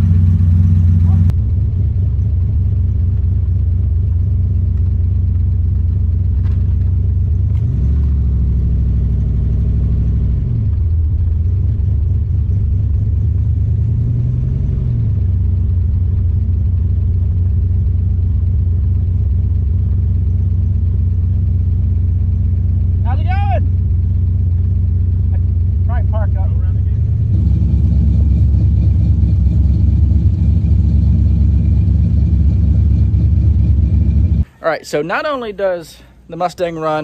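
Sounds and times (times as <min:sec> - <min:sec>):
car engine from inside cabin: 0:00.0 - 0:34.5.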